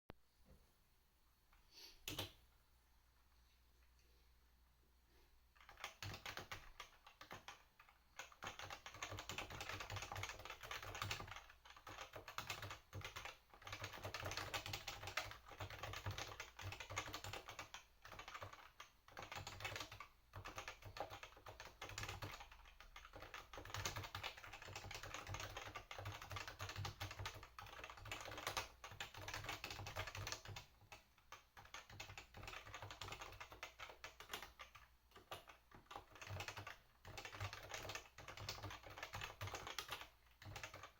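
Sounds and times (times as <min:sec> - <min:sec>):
keyboard typing: 0:02.0 - 0:02.4, 0:05.6 - 0:40.9.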